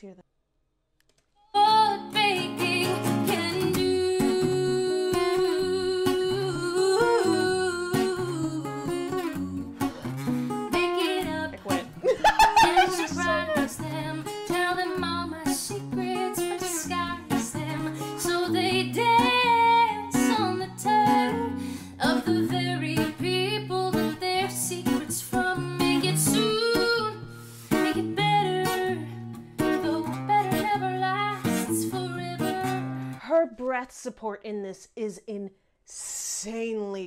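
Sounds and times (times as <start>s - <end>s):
acoustic guitar: 1.5s - 33.5s
woman singing a ballad: 1.6s - 10.0s, 10.7s - 11.7s, 12.8s - 33.1s.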